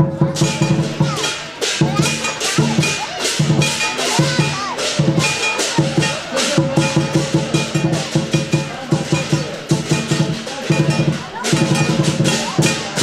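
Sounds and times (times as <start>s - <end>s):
cymbals crashing: 0.0s - 13.0s
large drum beaten in rolls: 0.0s - 13.0s.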